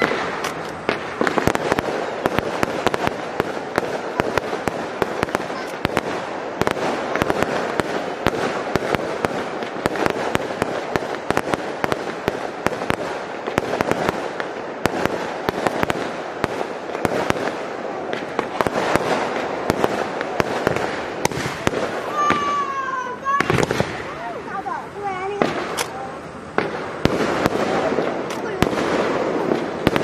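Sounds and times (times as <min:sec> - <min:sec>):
fireworks cracking and popping: 0:00.0 - 0:30.0.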